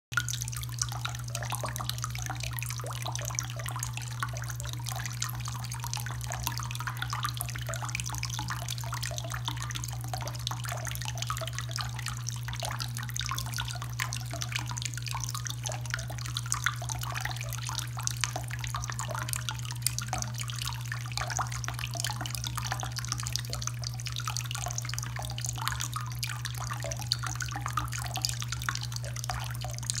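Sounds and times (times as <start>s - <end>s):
faucet water splashing into sink: 0.2s - 30.0s.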